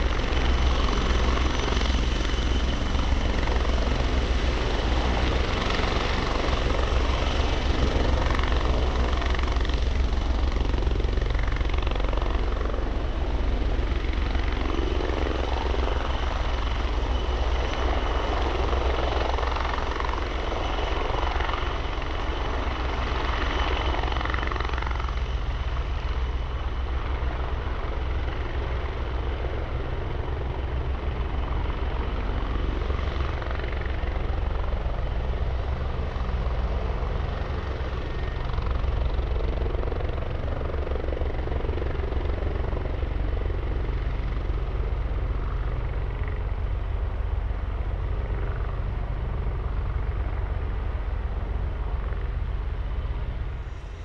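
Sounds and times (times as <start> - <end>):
helicopter rotor beat: 0.0 - 54.0
helicopter turbine whine: 0.0 - 54.0.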